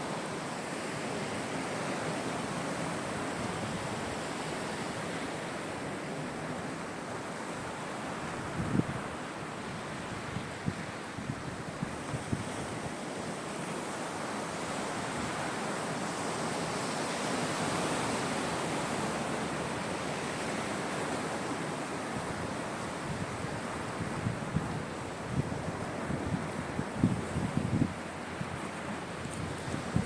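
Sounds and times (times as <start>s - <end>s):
surf washing ashore: 0.0s - 30.0s.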